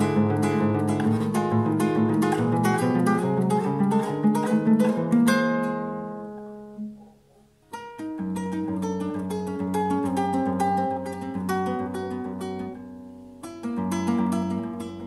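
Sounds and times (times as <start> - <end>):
classical guitar fingerstyle: 0.0 - 15.0.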